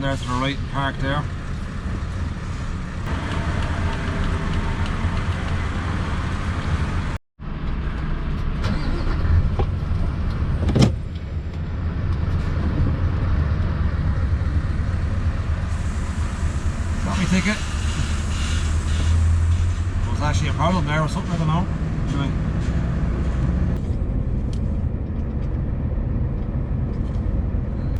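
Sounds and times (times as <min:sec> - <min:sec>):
truck engine running: 0:00.6 - 0:27.7.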